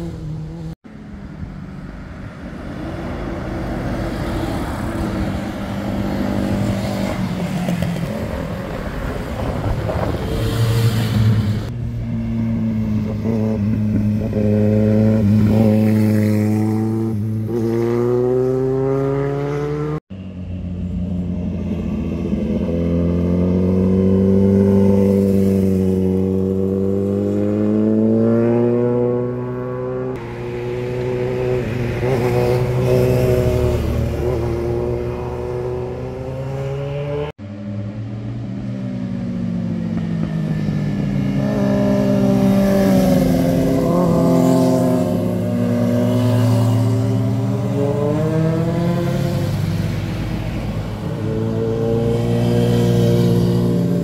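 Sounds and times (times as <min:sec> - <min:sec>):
motorcycle engines passing: 0:00.0 - 0:54.0.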